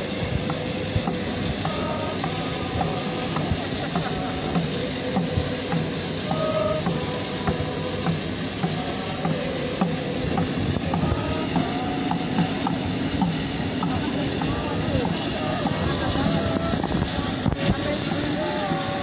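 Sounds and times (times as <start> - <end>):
jet airliner drone: 0.0 - 19.0.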